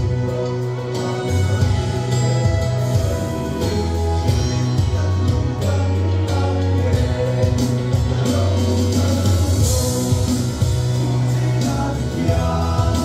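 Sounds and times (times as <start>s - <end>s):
male vocal ensemble singing: 0.0s - 13.0s
sustained low bass notes: 0.0s - 13.0s.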